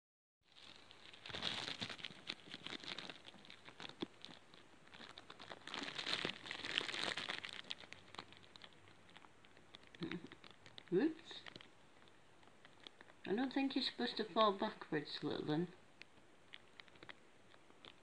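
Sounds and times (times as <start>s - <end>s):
crinkling and rustling: 0.5s - 18.0s.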